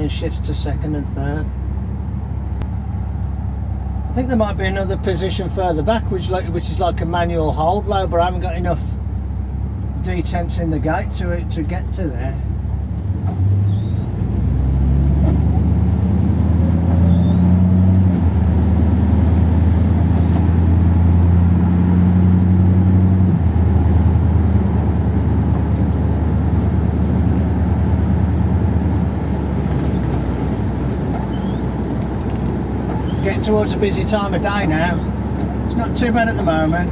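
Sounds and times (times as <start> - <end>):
car engine pulling: 0.0 - 36.9
road noise: 0.0 - 36.9.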